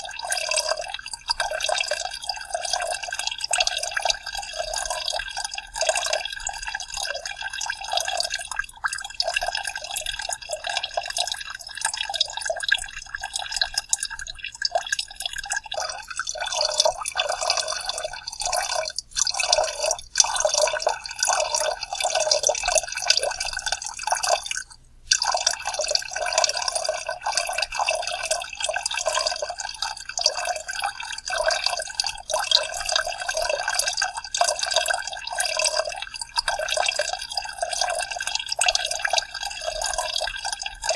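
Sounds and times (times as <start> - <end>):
soda pouring: 0.0 - 40.9.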